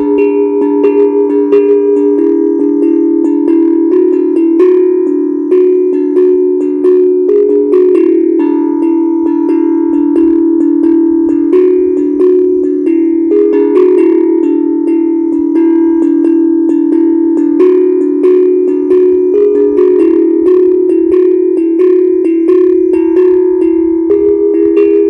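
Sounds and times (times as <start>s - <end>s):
steel tongue drum melody: 0.0s - 25.0s.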